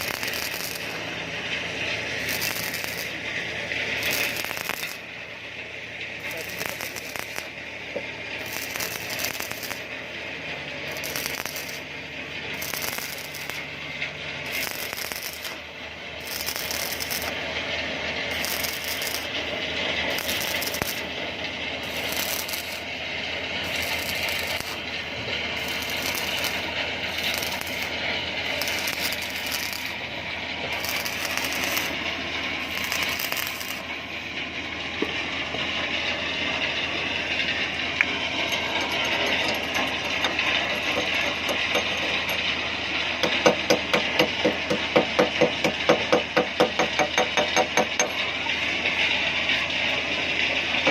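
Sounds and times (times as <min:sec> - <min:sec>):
welding arc crackling sizzle: 0:00.0 - 0:35.1, 0:36.3 - 0:48.8, 0:49.5 - 0:50.9.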